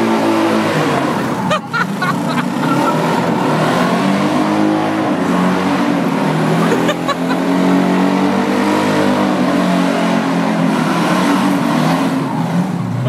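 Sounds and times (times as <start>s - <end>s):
engine at high revs: 0.0s - 13.0s
tyres spinning on road: 0.0s - 13.0s.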